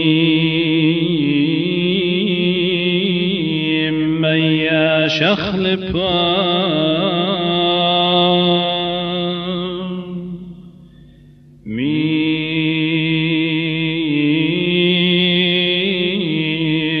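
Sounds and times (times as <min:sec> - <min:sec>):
man chanting a hymn: 0:00.0 - 0:10.8, 0:11.7 - 0:17.0.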